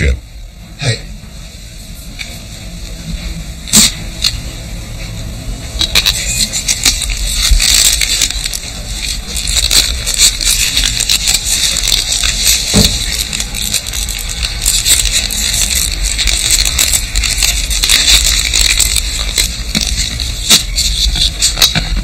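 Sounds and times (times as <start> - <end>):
crackling scraping noise: 1.4 - 22.0.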